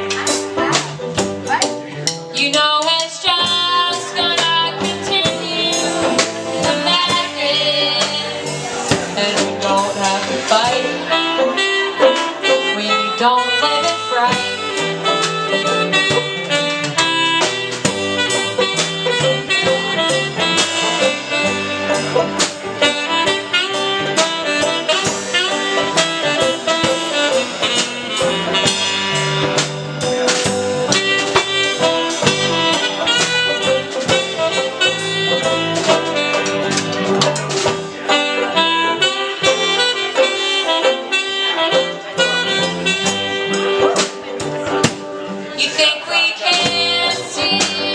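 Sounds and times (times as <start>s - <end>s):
drum kit steady beat: 0.0s - 47.9s
saxophone: 2.4s - 47.9s.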